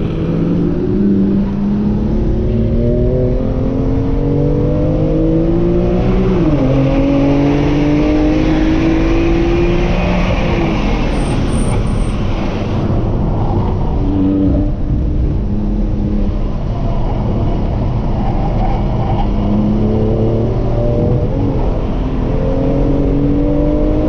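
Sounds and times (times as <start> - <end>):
car engine accelerating: 0.0 - 24.0
road and wind noise: 0.0 - 24.0.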